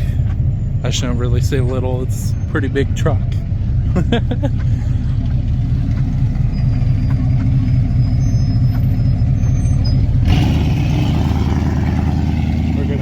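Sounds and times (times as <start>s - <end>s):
truck engine rumbling past: 0.0s - 13.0s.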